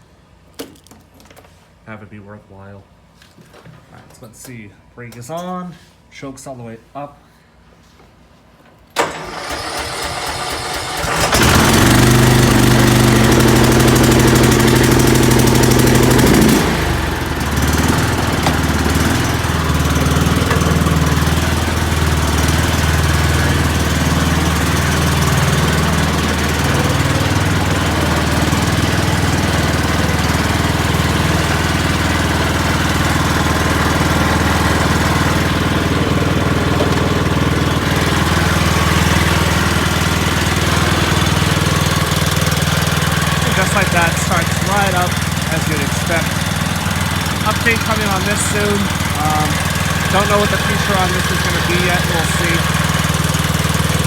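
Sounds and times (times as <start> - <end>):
lawn mower engine running: 9.0 - 54.0
starter cranking: 9.0 - 54.0.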